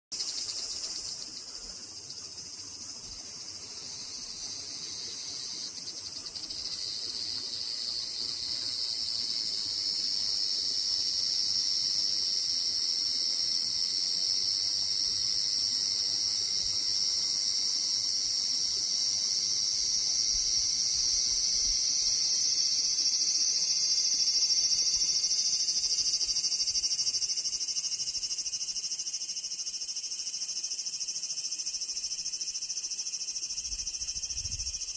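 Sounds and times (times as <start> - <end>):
cicada buzzing: 0.2 - 34.9.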